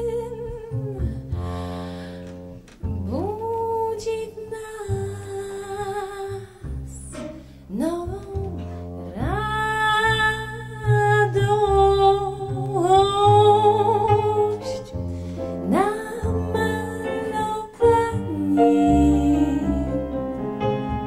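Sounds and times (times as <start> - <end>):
low instrumental accompaniment: 0.0 - 21.0.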